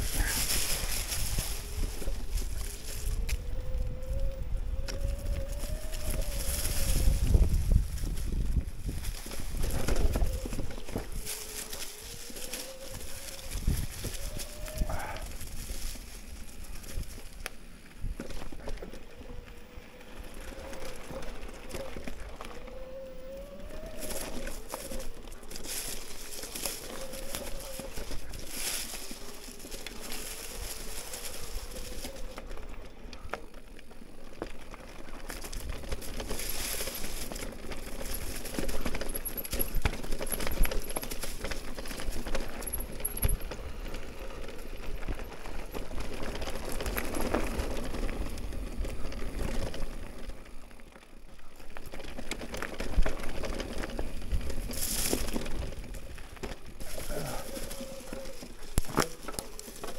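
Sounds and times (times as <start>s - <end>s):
bike chain and frame rattling: 0.0s - 3.2s, 5.0s - 59.9s
bike tyres crunching over leaves: 0.0s - 59.9s.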